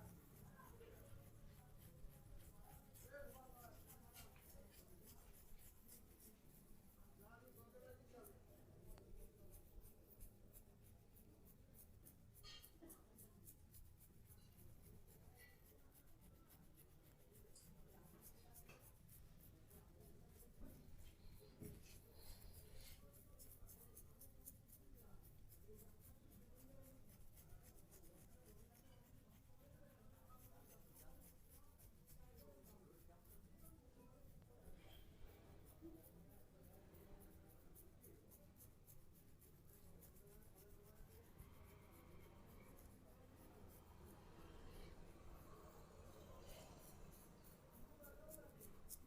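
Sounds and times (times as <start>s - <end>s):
fast scratchy rubbing: 0.0s - 34.7s, 35.3s - 49.0s.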